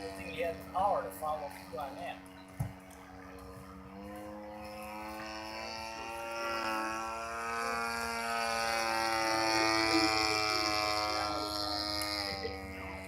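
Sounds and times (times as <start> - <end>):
model airplane motor buzzing: 0.0 - 13.0.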